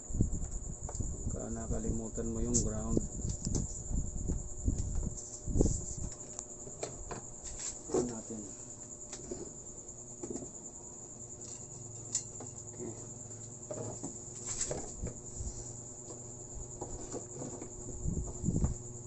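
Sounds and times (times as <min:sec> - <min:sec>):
insect chirring: 0:00.0 - 0:19.0.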